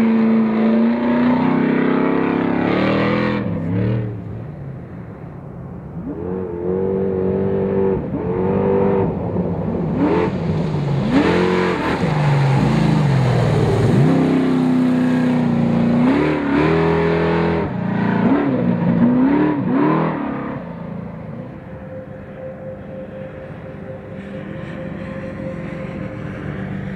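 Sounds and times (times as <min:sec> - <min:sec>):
truck engines revving hard: 0:00.0 - 0:04.9, 0:05.9 - 0:23.0.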